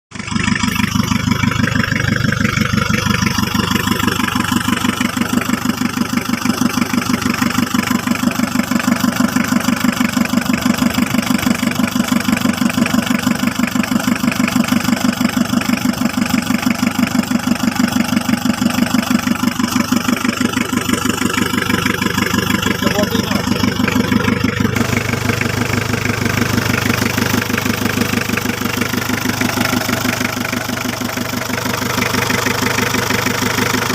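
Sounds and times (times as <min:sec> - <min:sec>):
engine idling with clatter: 0:00.1 - 0:33.9.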